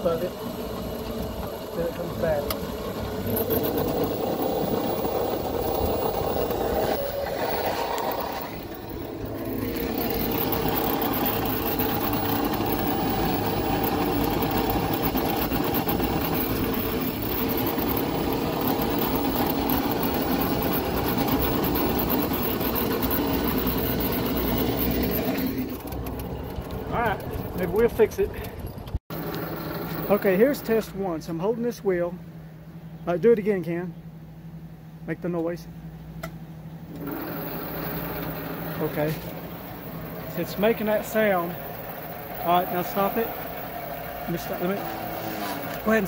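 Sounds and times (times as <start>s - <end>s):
golf cart whining drone: 0.0s - 31.0s, 36.8s - 46.0s.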